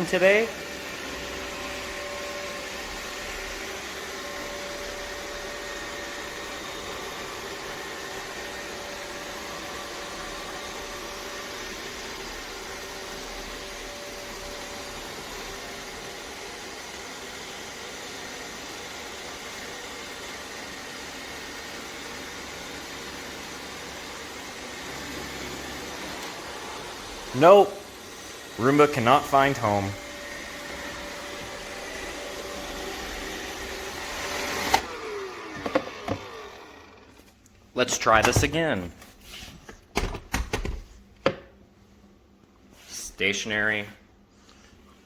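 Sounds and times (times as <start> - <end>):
robot vacuum whirring: 0.4 - 37.2.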